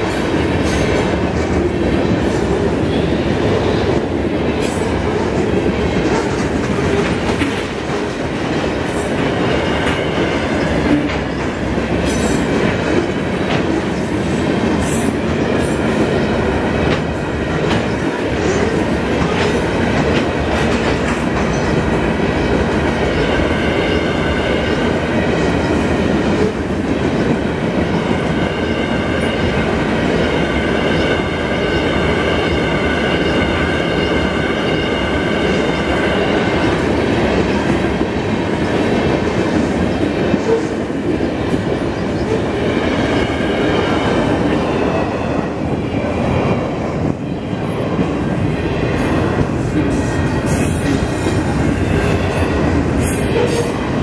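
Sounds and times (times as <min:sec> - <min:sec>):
clickety-clack over rail joints: 0:00.0 - 0:31.4, 0:32.0 - 0:54.0
train wheels rumbling on rails: 0:00.0 - 0:54.0.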